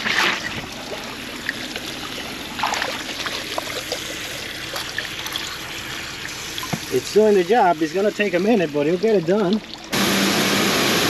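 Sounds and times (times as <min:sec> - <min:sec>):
water splashing from hose nozzle: 0:00.0 - 0:10.1.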